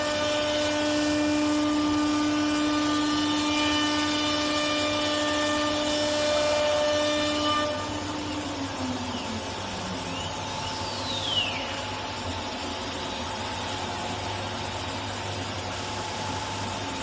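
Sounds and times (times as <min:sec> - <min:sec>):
cnc router machine noise: 0:00.0 - 0:17.0.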